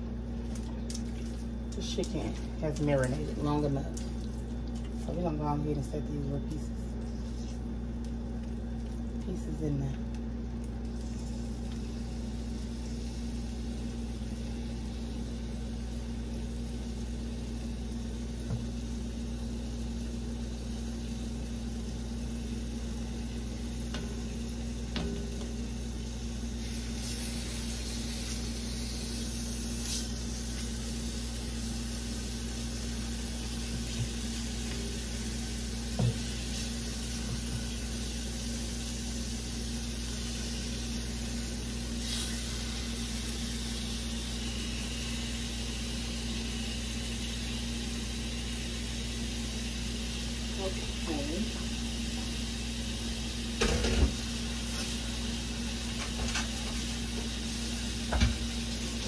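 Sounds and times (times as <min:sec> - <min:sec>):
chicken sizzling in oil: 0:10.9 - 0:59.0.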